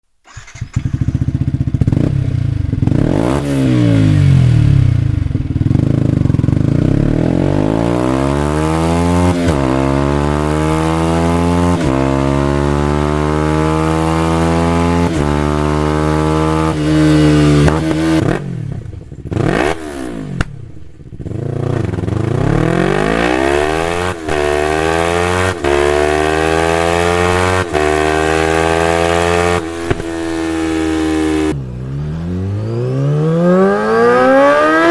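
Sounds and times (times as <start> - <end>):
motorcycle engine accelerating: 0.2 - 34.9.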